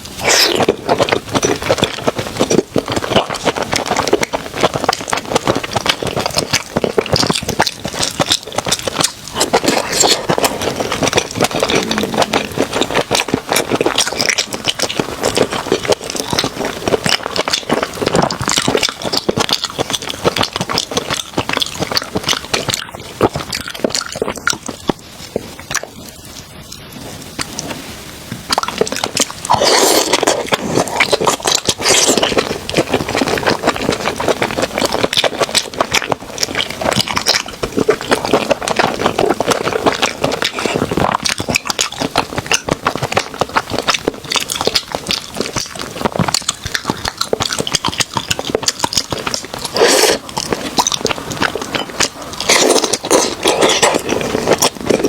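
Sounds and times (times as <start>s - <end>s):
wet chewing and crackling bites: 0.0s - 55.0s.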